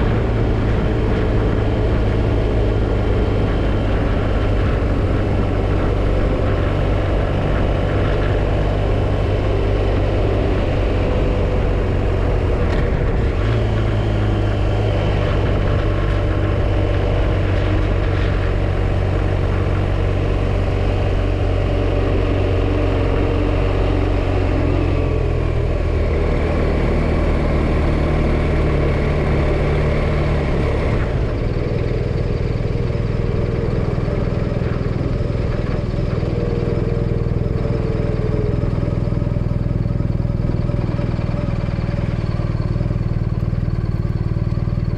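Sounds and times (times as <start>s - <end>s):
motorcycle engine running: 0.0s - 44.9s
road and wind noise: 0.0s - 44.9s.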